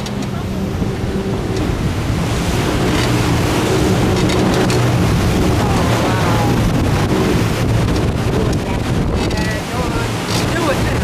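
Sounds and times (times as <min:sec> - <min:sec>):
churning turbulent water: 0:00.0 - 0:11.0
motorboat engine running: 0:00.0 - 0:11.0.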